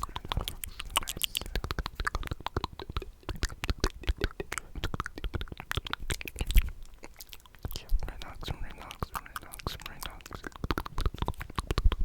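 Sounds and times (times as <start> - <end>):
tongue and lip clicks: 0.0 - 12.0.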